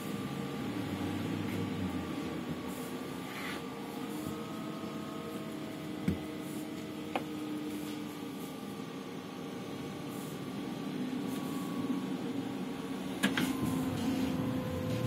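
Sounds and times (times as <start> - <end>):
electrical hum and whine: 0.0 - 15.0.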